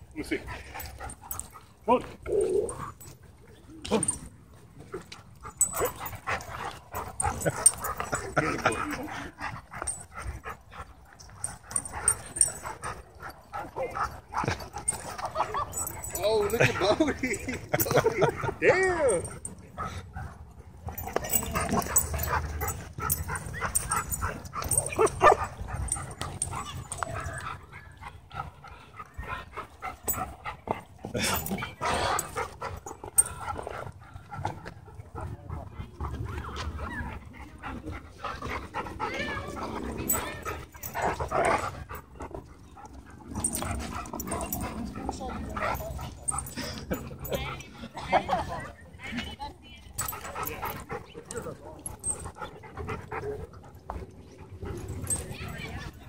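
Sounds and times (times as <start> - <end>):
dogs barking yipping and whining: 2.4 - 34.8, 36.1 - 48.6, 50.0 - 56.0.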